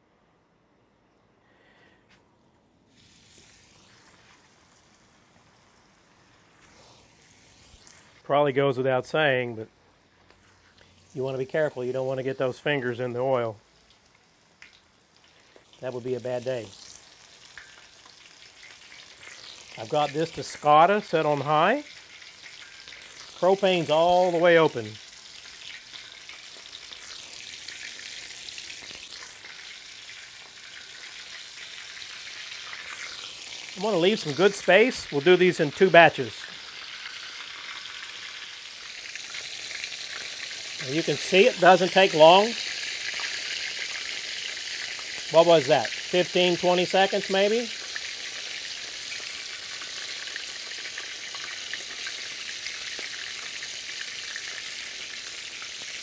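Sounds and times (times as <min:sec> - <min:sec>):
oysters sizzling in hot oil: 0:02.8 - 0:08.3, 0:09.7 - 0:56.0.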